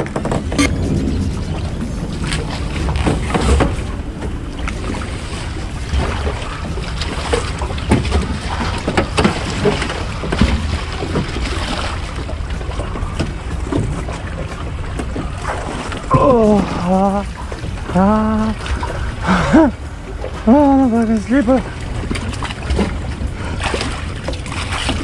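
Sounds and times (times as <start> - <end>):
knocks and clatter of aluminum boat: 0.0 - 16.2, 20.0 - 25.0
wind buffeting microphone: 0.0 - 25.0.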